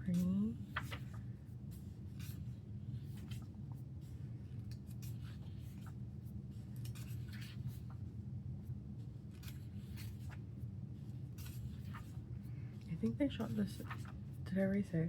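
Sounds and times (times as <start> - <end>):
paper pages rustling: 0.6 - 8.1, 9.0 - 14.4.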